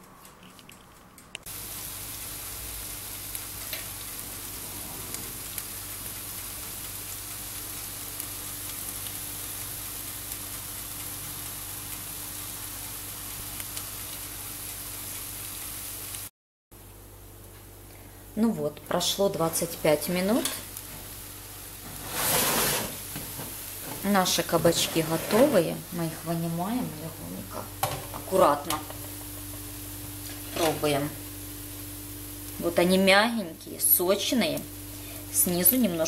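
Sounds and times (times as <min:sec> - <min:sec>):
oven hum: 0:00.0 - 0:16.2, 0:16.8 - 0:36.0
vegetables sizzling in oven: 0:01.4 - 0:36.0.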